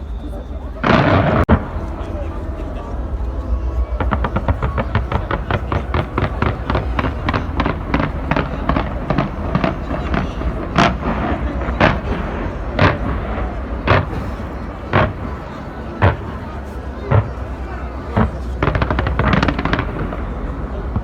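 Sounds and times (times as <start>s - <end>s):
fireworks bangs: 0.8s - 21.0s.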